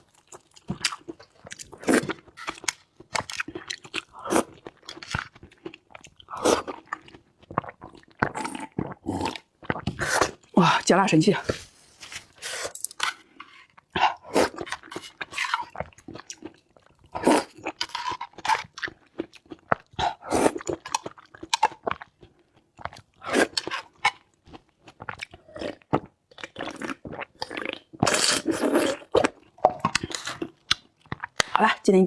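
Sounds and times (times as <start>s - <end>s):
person chewing crunchy food: 0.0s - 10.8s, 11.4s - 31.6s.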